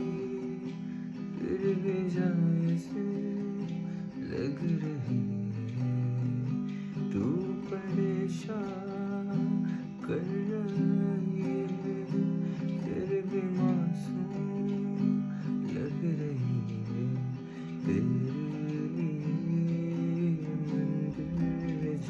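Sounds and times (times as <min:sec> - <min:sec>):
strummed acoustic guitar chords: 0:00.0 - 0:22.0.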